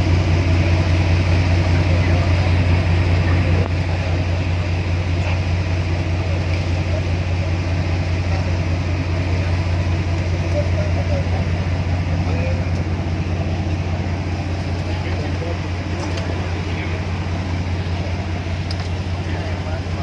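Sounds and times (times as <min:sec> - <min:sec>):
jet ski engine running: 0:00.0 - 0:20.0.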